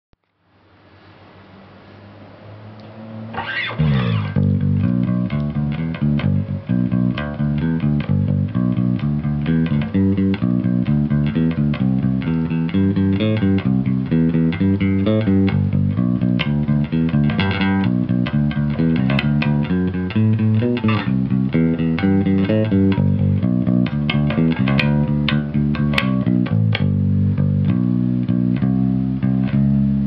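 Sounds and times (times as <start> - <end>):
bass amp hum: 0.2 - 30.0
electric bass notes: 2.5 - 30.0.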